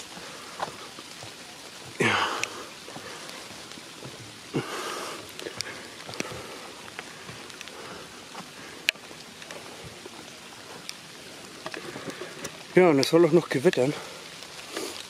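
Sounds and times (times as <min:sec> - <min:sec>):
steady rain falling: 0:00.0 - 0:15.0
drops ticking: 0:00.1 - 0:14.6.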